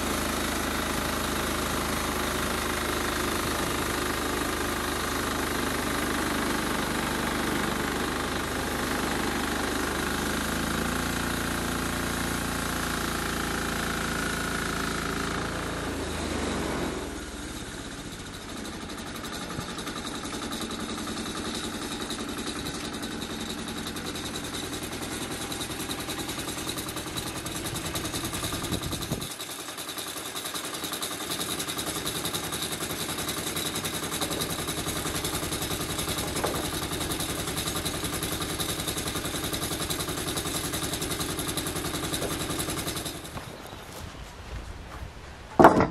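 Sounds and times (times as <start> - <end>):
saw blade cutting log: 0.0 - 43.7
petrol engine running: 0.0 - 44.0.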